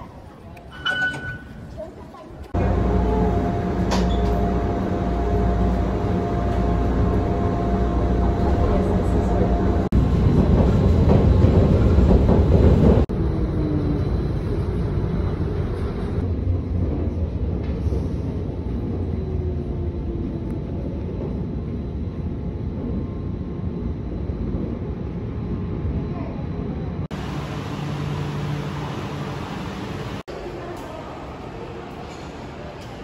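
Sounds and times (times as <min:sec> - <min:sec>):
train rumbling in motion: 0:00.0 - 0:33.0.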